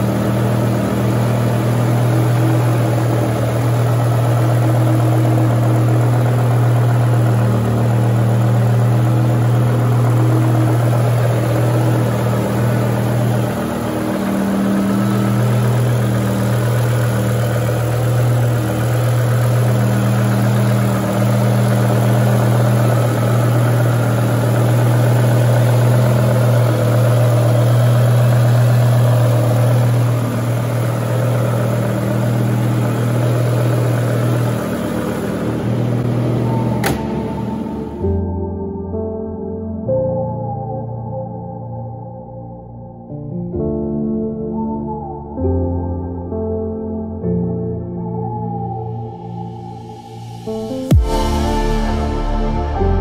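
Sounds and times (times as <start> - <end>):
car engine droning: 0.0 - 42.8, 47.3 - 53.0.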